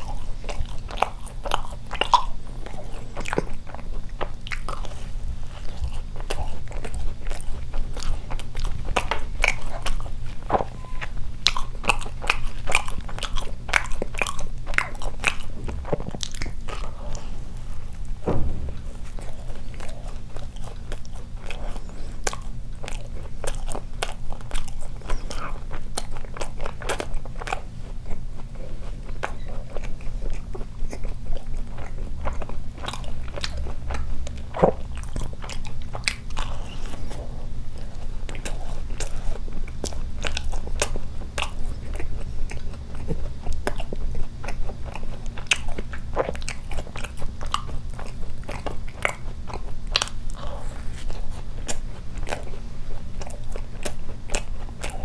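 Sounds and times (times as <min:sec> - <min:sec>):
close chewing and biting: 0:00.0 - 0:55.0
steady low hum: 0:00.0 - 0:55.0.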